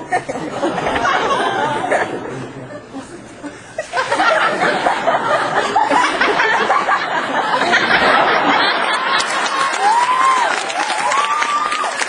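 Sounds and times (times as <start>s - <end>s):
audience laughing: 0.0s - 10.4s.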